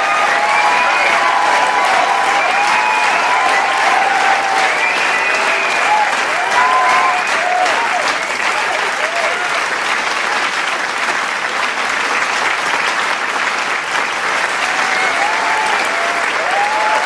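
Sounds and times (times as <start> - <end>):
crowd applauding: 0.0 - 17.0
people cheering: 0.0 - 17.0.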